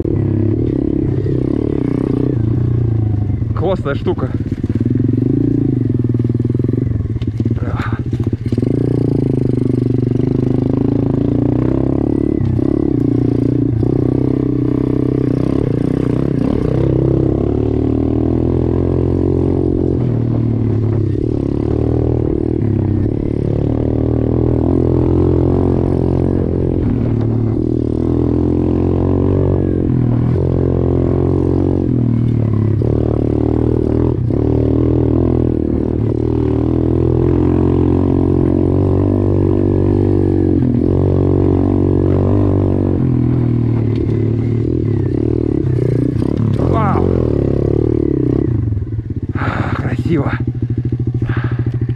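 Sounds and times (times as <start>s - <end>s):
motorbike engine revving: 0.0s - 51.9s.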